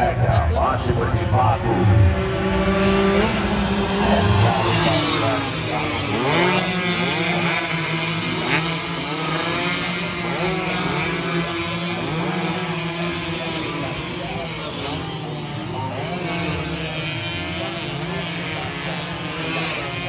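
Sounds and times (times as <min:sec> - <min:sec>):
racing motorcycles revving past: 0:00.0 - 0:20.0.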